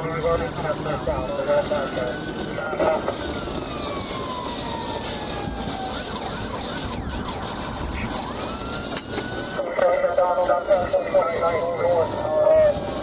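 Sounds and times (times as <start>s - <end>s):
moving car rumble: 0.0s - 13.0s
police siren wailing: 0.0s - 13.0s.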